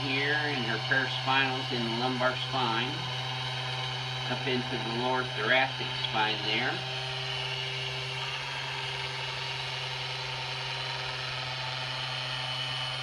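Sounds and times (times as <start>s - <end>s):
vibration massager humming: 0.0s - 13.0s.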